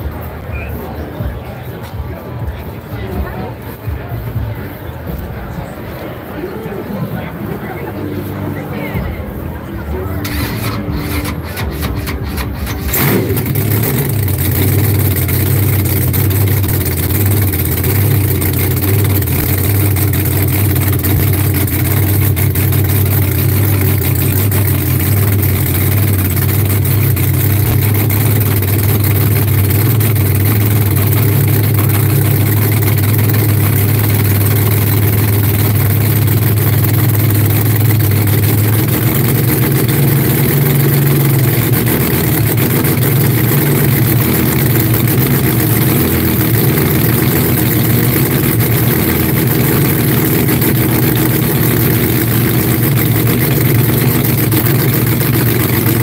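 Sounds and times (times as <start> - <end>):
supercharged engine idling: 0.0 - 56.0.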